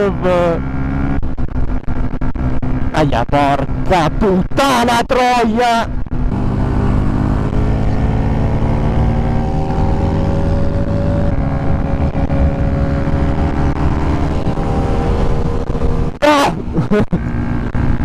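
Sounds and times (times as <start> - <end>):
motorcycle engine accelerating: 0.0 - 4.8, 5.9 - 18.0.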